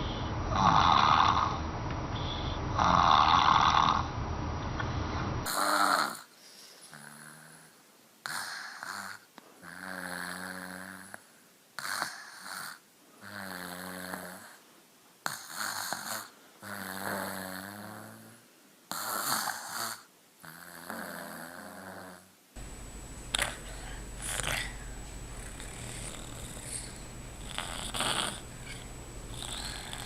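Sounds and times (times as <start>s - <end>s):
person snoring: 0.0s - 1.6s, 2.8s - 4.0s, 5.4s - 14.6s, 15.3s - 22.3s, 23.3s - 30.0s.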